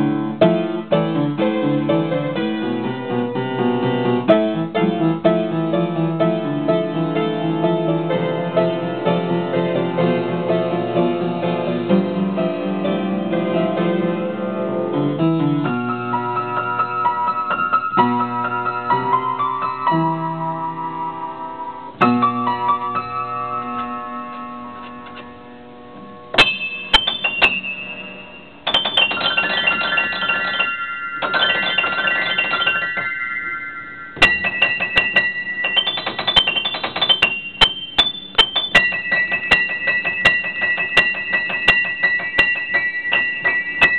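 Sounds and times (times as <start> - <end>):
solo piano playing: 0.0 - 43.9.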